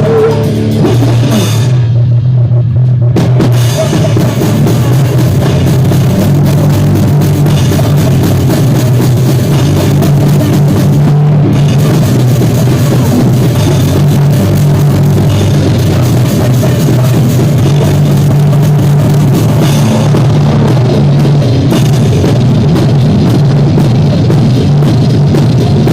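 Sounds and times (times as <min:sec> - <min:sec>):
drum kit: 0:00.0 - 0:25.9
heavy bass: 0:00.0 - 0:25.9
live rock band playing: 0:00.0 - 0:25.9.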